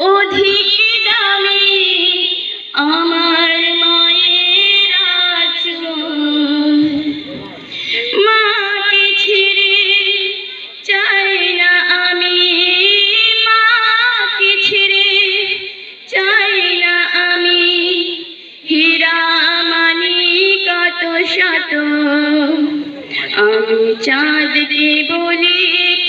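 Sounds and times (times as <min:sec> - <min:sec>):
woman singing into a microphone: 0:00.0 - 0:26.0.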